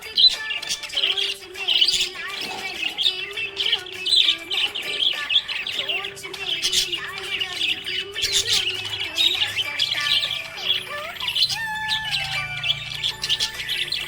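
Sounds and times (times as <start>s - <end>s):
budgies chirping and warbling: 0.0s - 14.0s.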